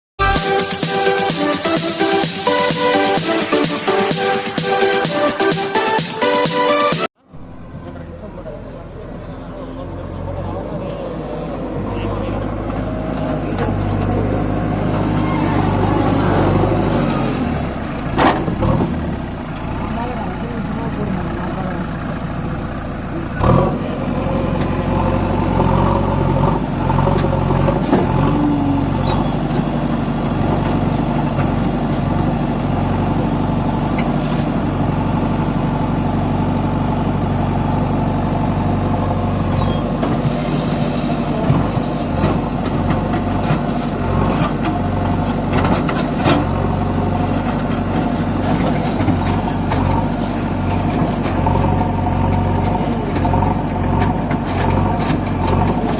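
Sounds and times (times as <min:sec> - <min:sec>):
diesel engine running: 0:00.2 - 0:55.9.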